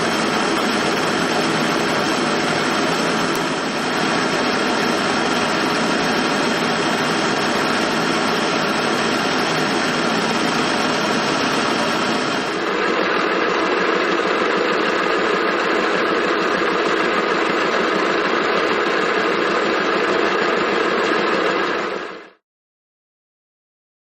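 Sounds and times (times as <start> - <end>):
lathe whirring: 0.0 - 22.4.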